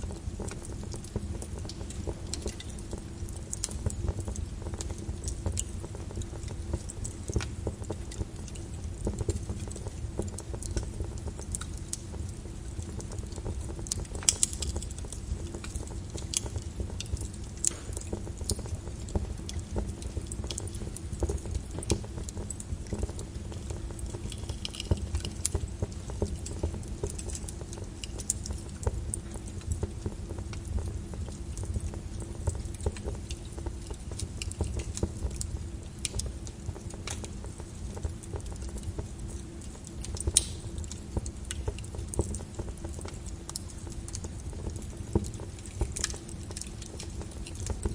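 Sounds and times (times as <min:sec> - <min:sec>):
lava crust cracking: 0:00.0 - 0:47.9.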